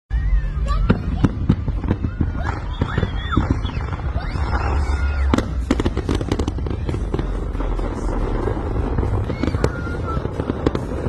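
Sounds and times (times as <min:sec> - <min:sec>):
low rumble: 0:00.1 - 0:11.0
fireworks bangs and crackles: 0:00.2 - 0:11.0.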